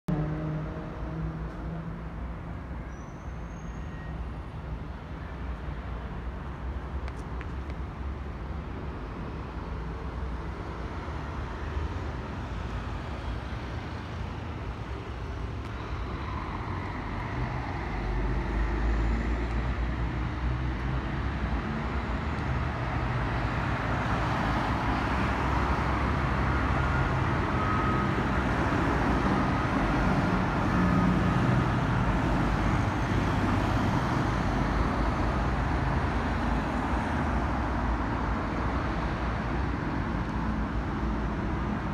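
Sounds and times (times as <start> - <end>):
cars driving past: 0.1 - 2.5, 6.6 - 41.9.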